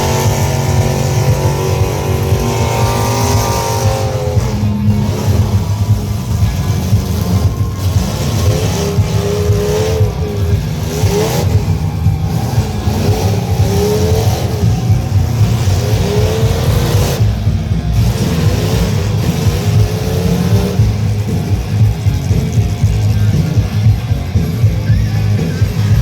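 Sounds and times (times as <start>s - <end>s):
truck engines revving: 0.0s - 26.0s.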